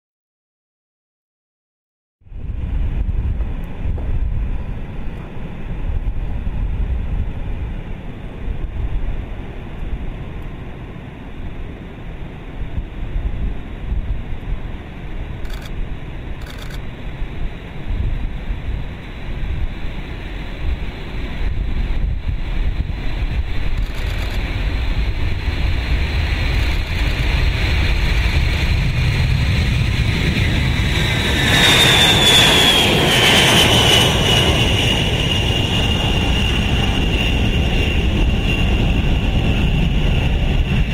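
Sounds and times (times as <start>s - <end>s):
jet engines roaring at takeoff: 2.2s - 40.9s.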